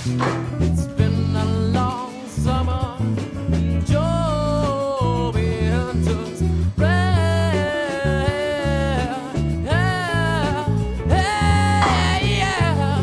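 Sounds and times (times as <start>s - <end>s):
song with singing voice: 0.0s - 13.0s.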